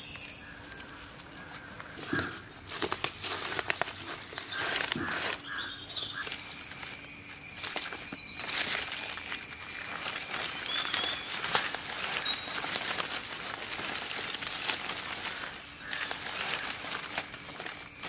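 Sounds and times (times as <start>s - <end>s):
high insect buzz: 0.0s - 18.0s
dry palm leaves rustling: 1.4s - 18.0s.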